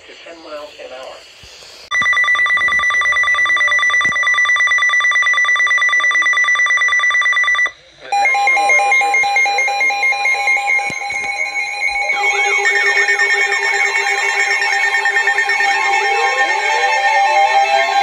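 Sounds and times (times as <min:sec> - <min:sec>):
radios beeping and warbling: 0:00.0 - 0:18.0
rapid high-pitched alarm beeping: 0:01.9 - 0:18.0.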